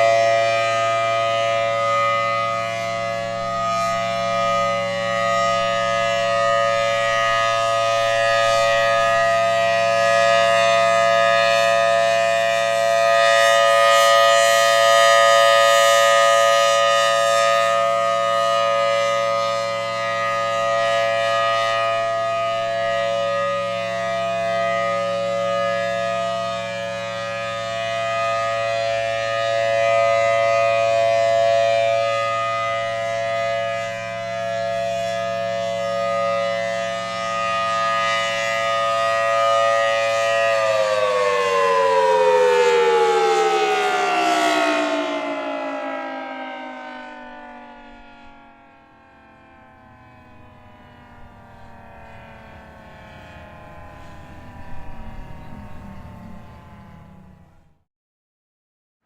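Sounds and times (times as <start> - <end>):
civil defense siren steady tone: 0.0 - 57.9.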